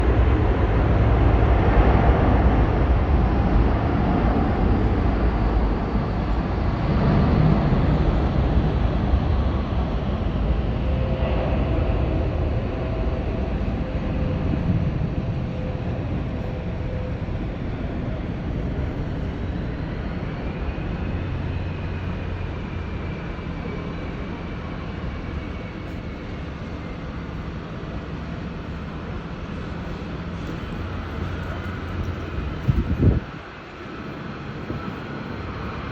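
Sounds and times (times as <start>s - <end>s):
jet airliner taking off: 0.0s - 35.9s.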